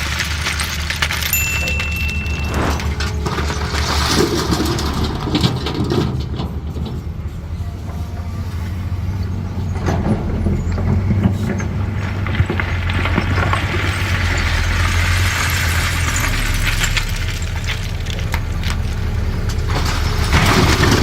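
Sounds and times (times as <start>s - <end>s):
excavator diesel engine under load: 0.0s - 21.0s.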